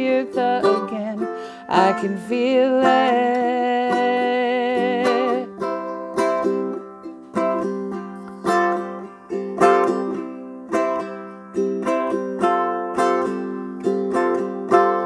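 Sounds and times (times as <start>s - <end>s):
ukulele strumming chords: 0.0s - 15.0s.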